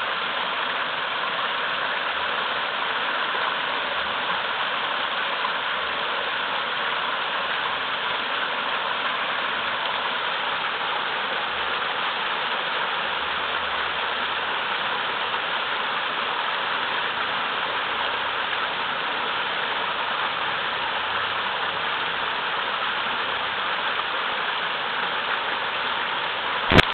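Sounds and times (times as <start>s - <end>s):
waterfall rushing over rocks: 0.0s - 26.9s.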